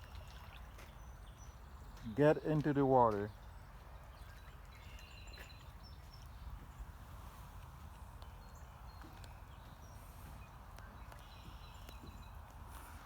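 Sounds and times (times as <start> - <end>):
creek running: 0.0 - 13.0.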